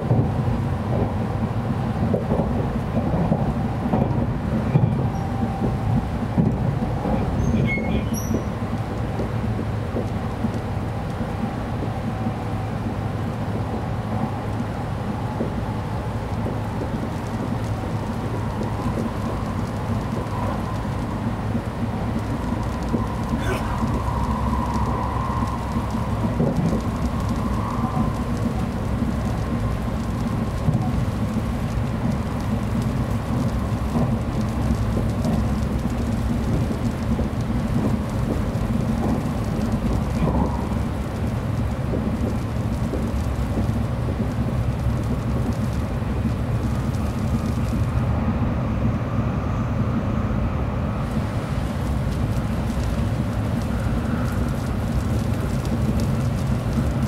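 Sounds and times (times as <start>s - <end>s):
train rumble inside carriage: 0.0s - 57.0s.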